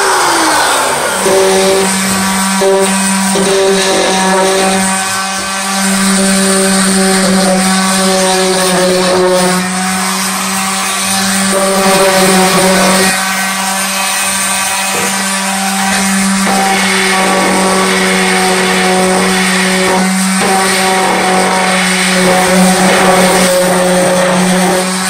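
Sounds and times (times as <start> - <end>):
orbital sander on wood: 0.0 - 25.0.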